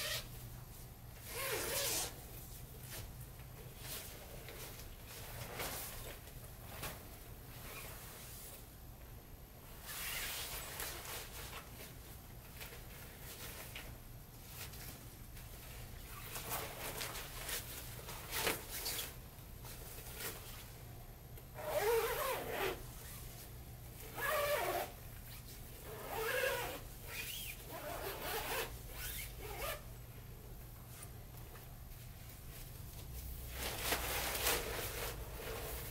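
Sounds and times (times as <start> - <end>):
nylon fabric rustling: 0.0 - 8.6, 9.8 - 20.8, 21.6 - 29.8, 31.9 - 35.9.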